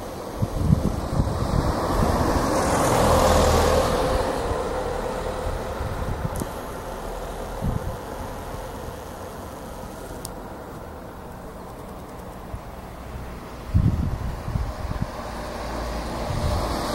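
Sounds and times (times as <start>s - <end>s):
car passing by: 0.0s - 11.5s, 12.4s - 16.9s.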